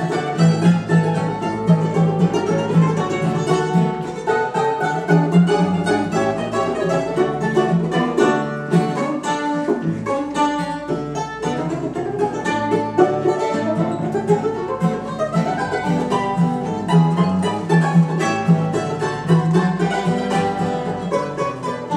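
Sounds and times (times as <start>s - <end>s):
mandolin playing: 0.0s - 21.9s
mandolin-banjo lead melody: 0.0s - 21.9s
strummed acoustic guitar: 0.0s - 21.9s.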